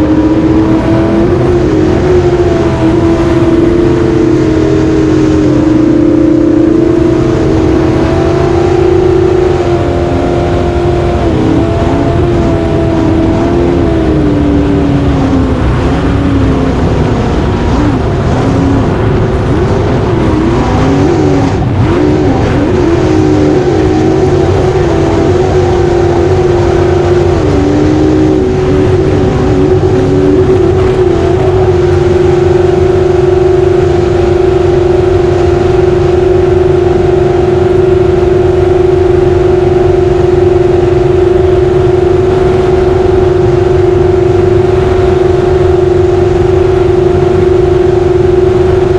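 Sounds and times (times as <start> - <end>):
racing jet boat engine: 0.0 - 48.9.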